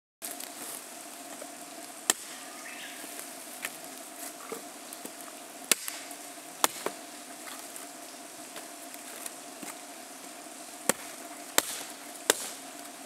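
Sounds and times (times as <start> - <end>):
steady faint hum: 0.2 - 13.0.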